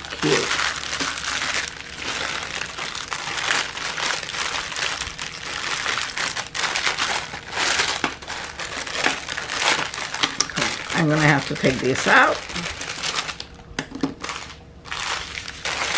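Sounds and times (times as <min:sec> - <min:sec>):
plastic bags crinkling: 0:00.0 - 0:15.9.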